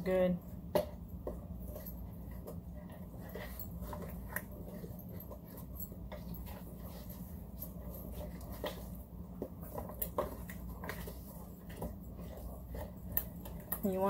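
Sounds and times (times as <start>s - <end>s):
steady low hum: 0.0s - 14.0s
wooden spoon stirring thick mixture: 0.0s - 14.0s.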